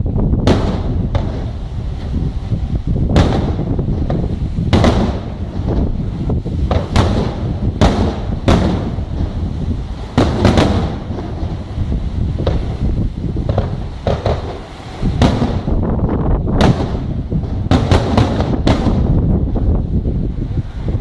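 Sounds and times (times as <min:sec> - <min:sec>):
firework booms: 0:00.0 - 0:21.0
firework crackle: 0:00.0 - 0:21.0
wind rumble on microphone: 0:00.0 - 0:21.0.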